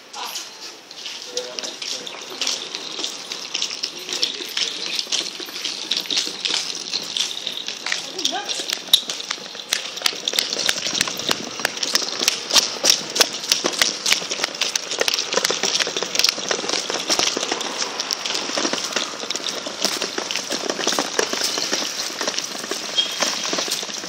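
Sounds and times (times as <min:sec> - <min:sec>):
plastic bin rolling over concrete: 0:01.4 - 0:24.0.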